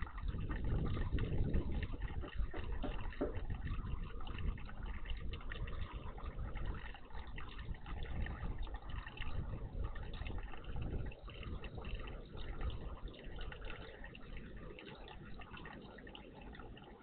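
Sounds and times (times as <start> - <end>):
low steady rumble: 0.0 - 17.0
water trickling and splashing: 0.0 - 17.0.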